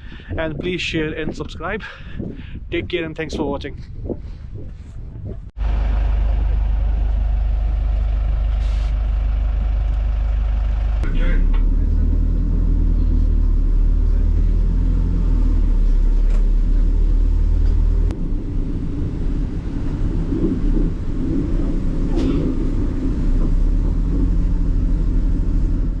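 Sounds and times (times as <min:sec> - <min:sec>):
vehicle engine rumble: 0:00.0 - 0:26.0.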